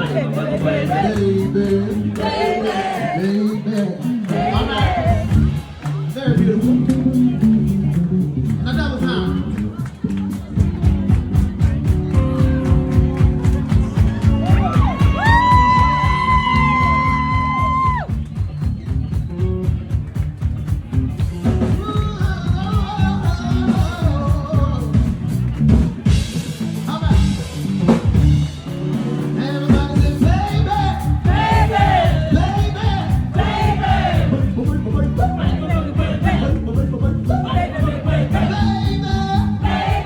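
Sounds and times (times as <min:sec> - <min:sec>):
drum beat: 0:00.0 - 0:09.4, 0:10.4 - 0:40.0
live band music: 0:00.0 - 0:40.0.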